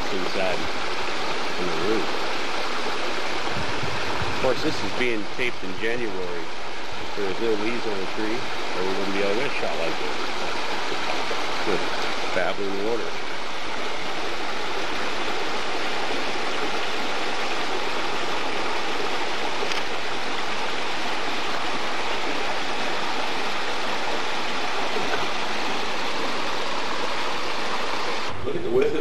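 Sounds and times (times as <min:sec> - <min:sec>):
creek water babbling over rocks: 0:00.0 - 0:28.4.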